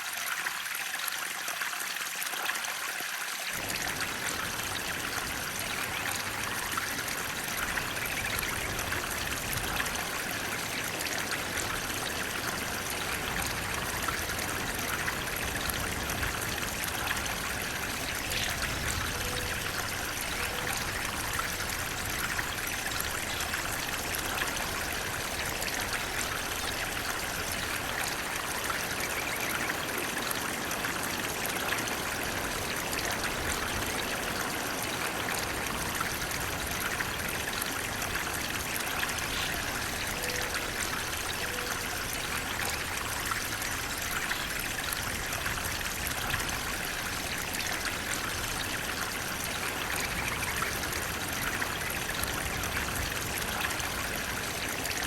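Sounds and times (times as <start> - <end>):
flowing water rushing and trickling: 0.0 - 55.0
deep low water rush: 3.4 - 55.0.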